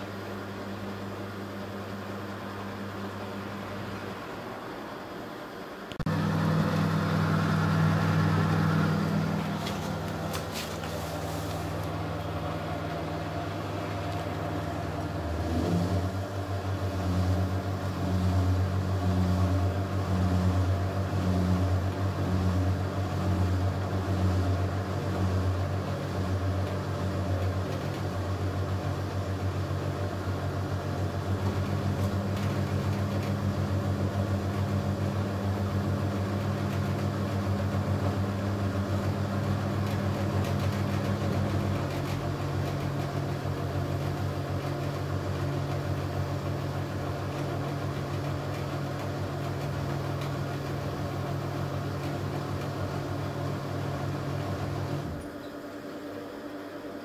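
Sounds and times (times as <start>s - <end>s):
washing machine motor humming: 0.0s - 57.0s.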